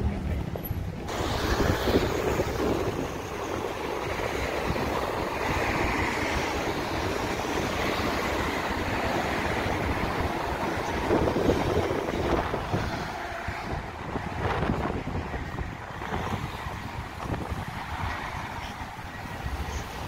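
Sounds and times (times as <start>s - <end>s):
cars passing on road: 0.0s - 20.0s.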